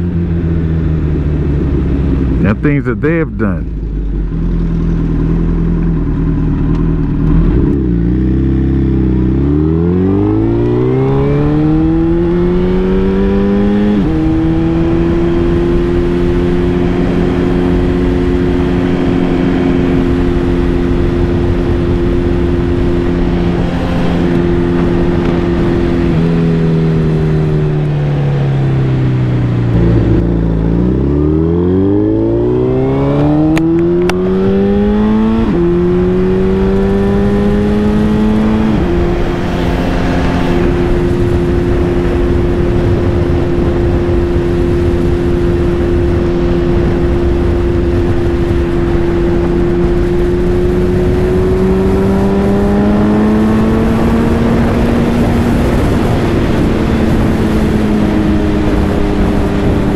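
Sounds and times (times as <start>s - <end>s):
wind and road noise: 0.0s - 59.9s
motorcycle engine revving: 3.4s - 59.9s.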